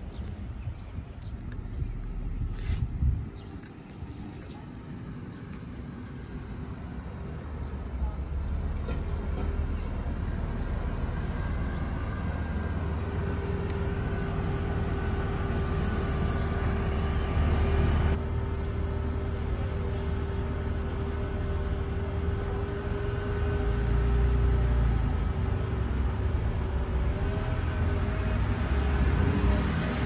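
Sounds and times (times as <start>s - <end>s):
diesel train engine rumble: 0.0s - 30.0s.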